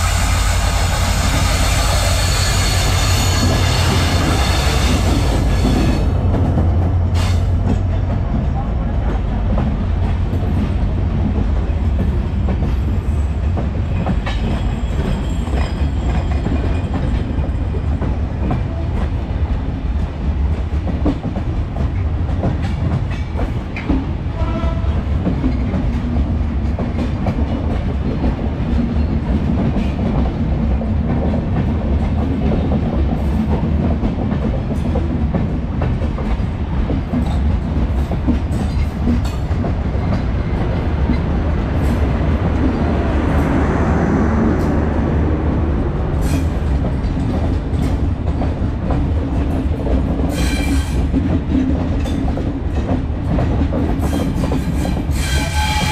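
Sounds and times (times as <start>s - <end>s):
train coaches rumbling past: 0.0s - 55.9s.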